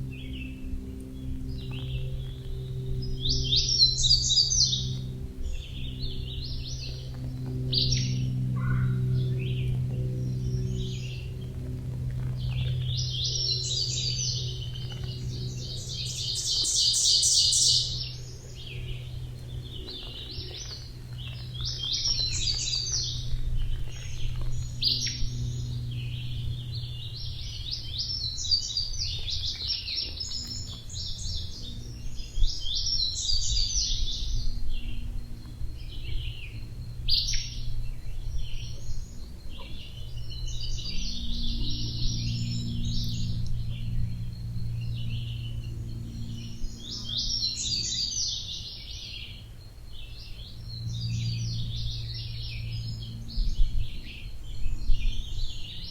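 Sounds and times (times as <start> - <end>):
low steady hum: 0.0 - 55.9
songbirds chirping and trilling: 0.0 - 55.9.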